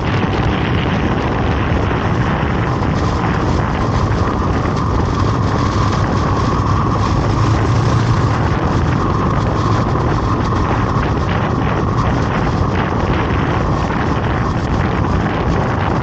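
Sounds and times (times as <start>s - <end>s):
vehicle engine running: 0.0s - 16.0s
wind noise on microphone: 0.0s - 16.0s.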